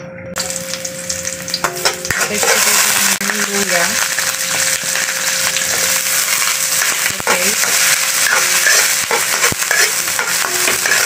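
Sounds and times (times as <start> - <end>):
garlic and onion sizzling in oil: 0.4 - 11.0
metal spatula stirring in wok: 1.6 - 11.0.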